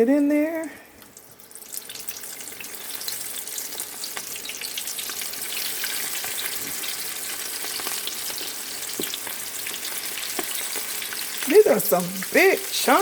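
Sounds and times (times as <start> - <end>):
chicken frying in hot oil: 0.0 - 13.0
oil crackles and pops: 0.6 - 13.0.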